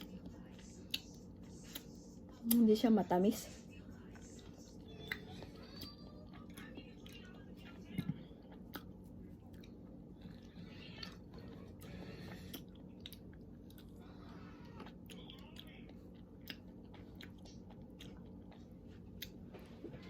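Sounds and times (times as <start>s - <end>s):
chewing soft fruit: 0.0s - 2.9s, 3.5s - 20.0s
low steady hum: 0.0s - 20.0s.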